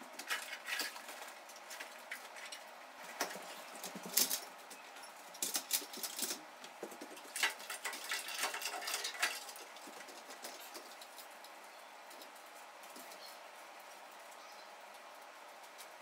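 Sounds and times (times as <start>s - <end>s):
clicks taps and rattles of handling: 0.1s - 13.2s.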